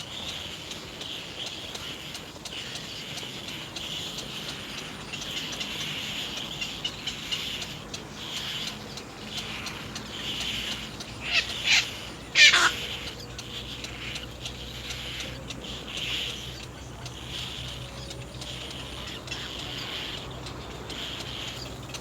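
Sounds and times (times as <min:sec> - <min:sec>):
harsh croaking bird calls: 0:00.0 - 0:22.0.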